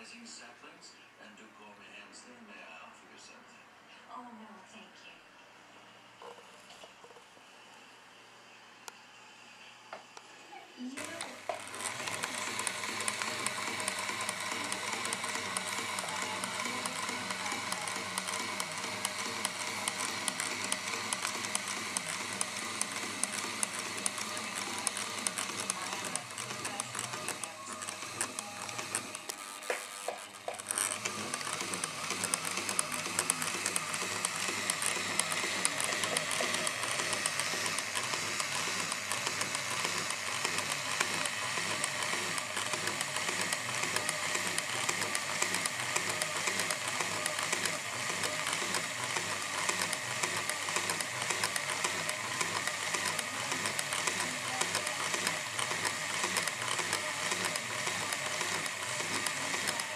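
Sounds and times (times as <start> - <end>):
sewing machine clattering: 11.0 - 59.9.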